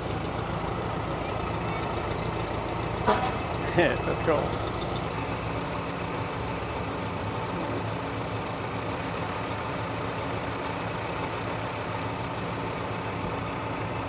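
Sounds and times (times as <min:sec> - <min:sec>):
fire truck engine idling: 0:00.0 - 0:14.0.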